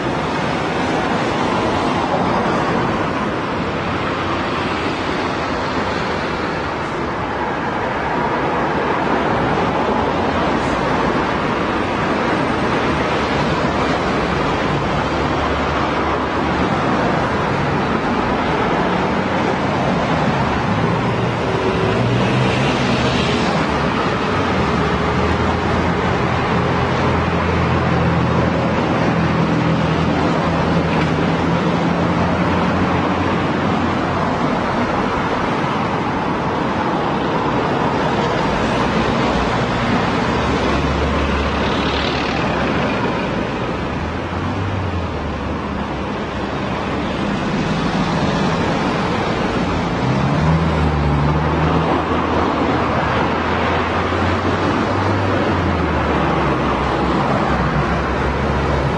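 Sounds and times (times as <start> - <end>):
road traffic: 0.0 - 58.9.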